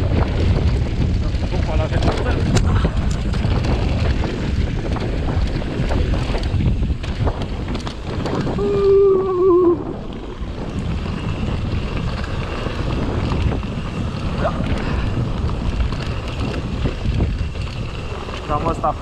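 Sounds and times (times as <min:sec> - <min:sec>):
mountain bike rumbling on trail: 0:00.0 - 0:19.0
wind buffeting microphone: 0:00.0 - 0:19.0.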